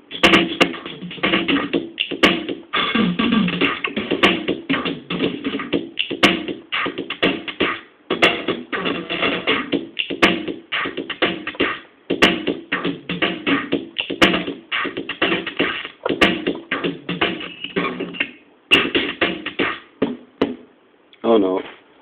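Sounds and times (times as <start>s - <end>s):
drum machine looping pattern: 0.0s - 20.7s.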